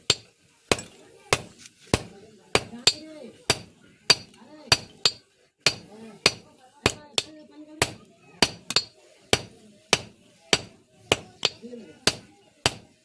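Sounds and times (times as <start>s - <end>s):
hammer striking steel on anvil: 0.0s - 12.8s.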